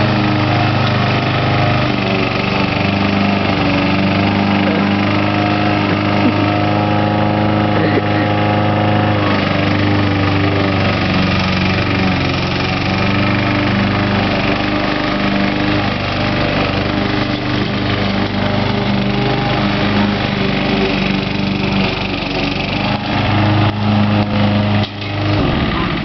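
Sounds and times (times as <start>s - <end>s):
lawn mower running: 0.0s - 26.0s.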